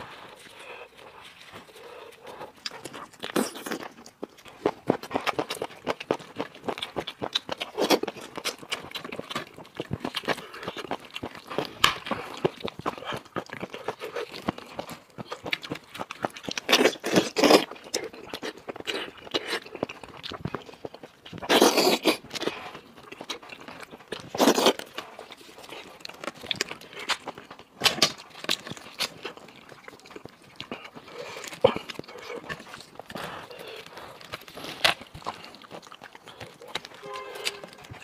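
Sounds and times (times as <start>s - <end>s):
person chewing and crunching: 0.0s - 38.0s.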